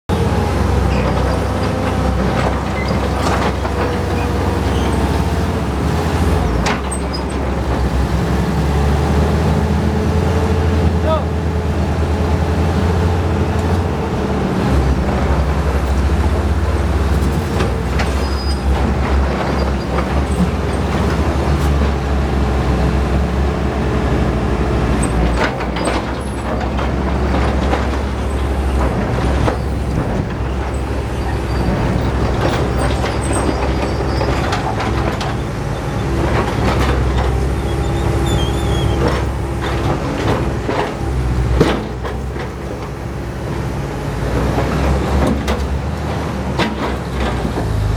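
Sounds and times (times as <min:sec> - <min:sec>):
diesel engines droning: 0:00.1 - 0:47.9.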